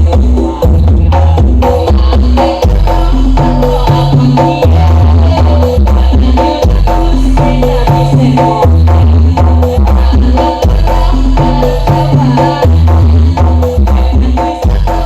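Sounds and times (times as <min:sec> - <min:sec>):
loud dance music through speakers: 0:00.0 - 0:15.0.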